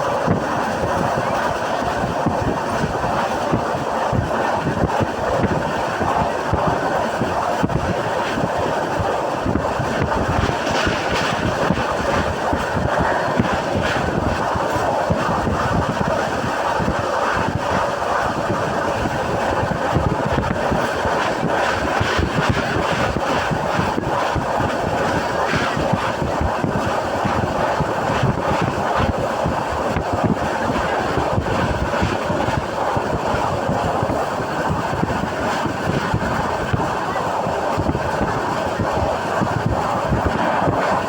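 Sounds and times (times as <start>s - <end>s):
train wheels rumbling on rails: 0.0s - 41.0s
wind noise on microphone: 0.0s - 41.0s.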